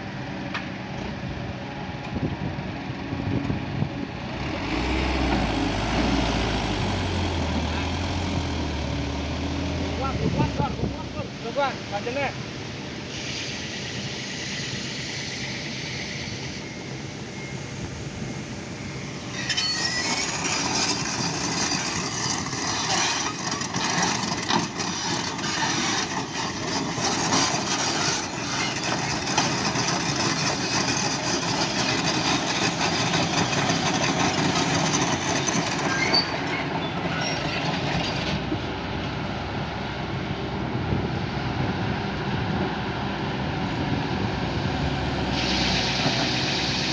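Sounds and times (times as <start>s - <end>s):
heavy diesel engines labouring: 0.0s - 46.9s.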